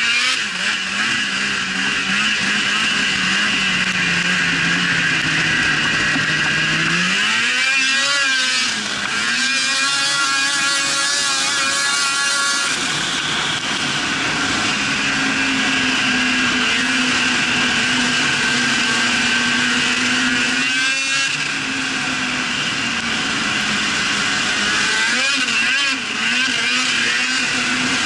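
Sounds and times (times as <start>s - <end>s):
snowmobile engine running: 0.0s - 28.0s.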